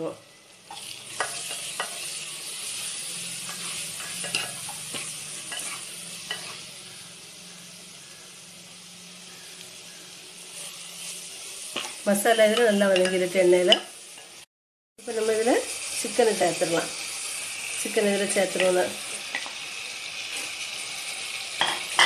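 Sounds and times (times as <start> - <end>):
spices and onions sizzling in oil: 0.0 - 22.0.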